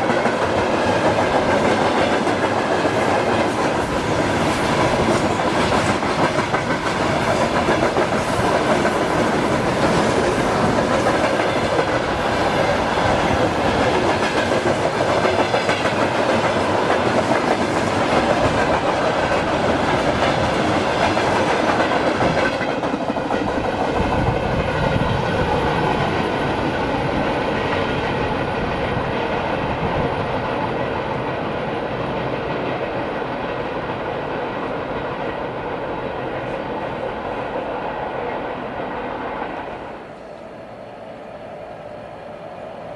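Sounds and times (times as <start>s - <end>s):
train wheels clacking over rail joints: 0.0s - 36.7s.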